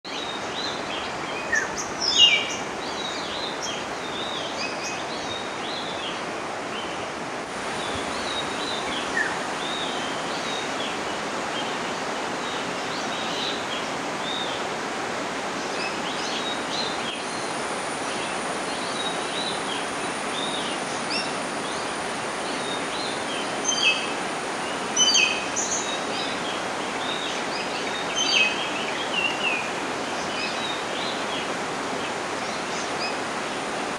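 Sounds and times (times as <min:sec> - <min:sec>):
rushing water: 0:00.1 - 0:33.9.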